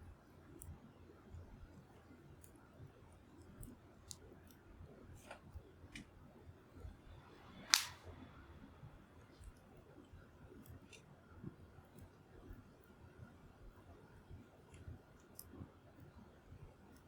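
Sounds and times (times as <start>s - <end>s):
wood fire crackling faintly: 0.0s - 17.0s.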